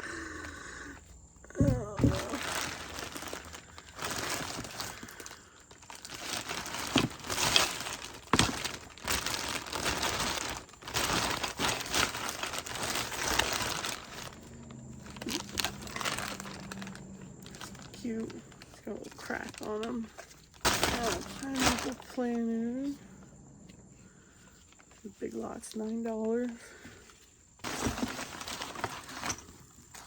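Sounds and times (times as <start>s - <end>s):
wrapping crinkling and rustling: 0.4s - 30.0s.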